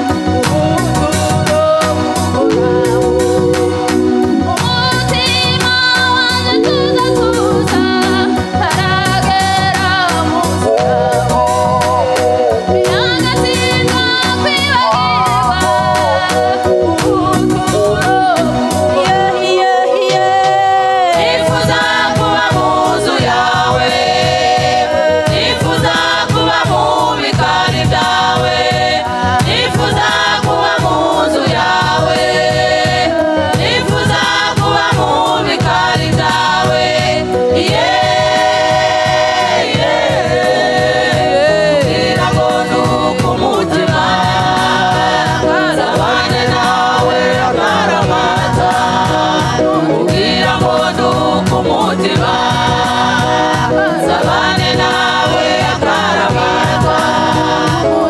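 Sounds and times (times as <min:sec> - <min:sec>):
gospel choir singing: 0:00.0 - 0:58.0
instrumental backing with beat: 0:00.0 - 0:58.0.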